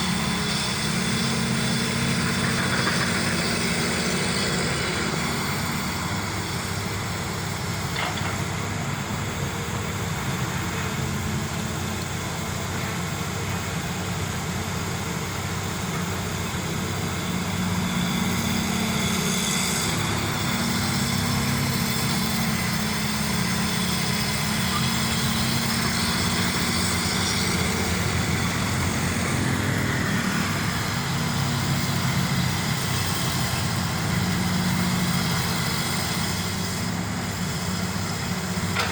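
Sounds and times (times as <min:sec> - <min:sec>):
excavator diesel engine digging: 0:00.0 - 0:38.9.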